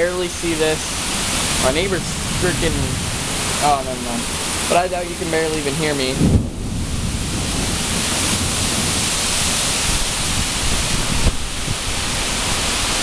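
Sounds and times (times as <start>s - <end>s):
heavy rain pouring: 0.0s - 13.0s
wind gusts buffeting microphone: 0.0s - 13.0s.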